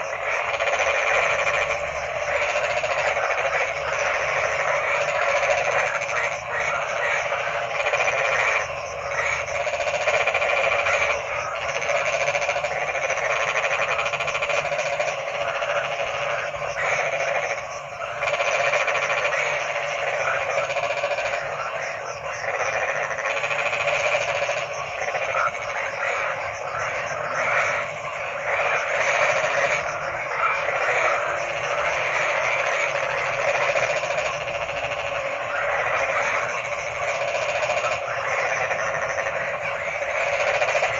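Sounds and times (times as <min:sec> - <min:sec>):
frogs croaking: 0:00.0 - 0:40.9.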